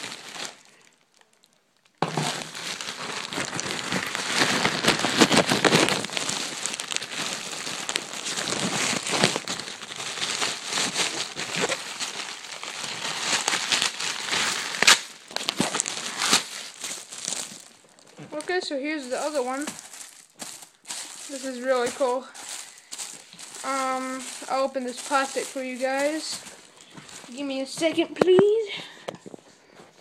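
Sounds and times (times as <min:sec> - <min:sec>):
plastic packaging crinkling: 0:00.0 - 0:29.5.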